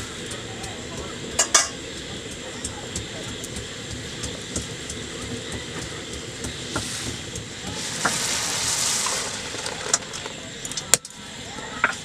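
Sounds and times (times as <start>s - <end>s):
burning sticks crackling: 0.0s - 12.0s
hiss: 0.0s - 12.0s
liquid bubbling hard: 0.1s - 10.6s.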